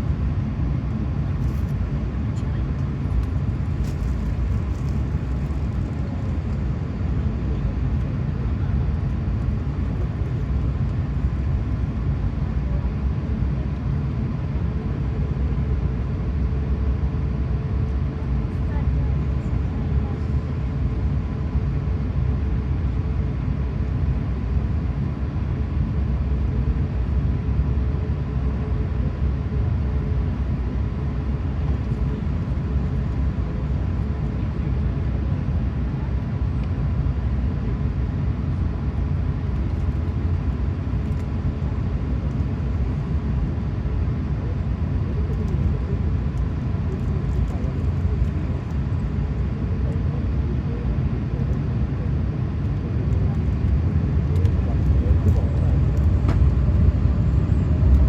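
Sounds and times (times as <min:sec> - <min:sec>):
jet engines and airflow rumble: 0:00.0 - 0:58.0.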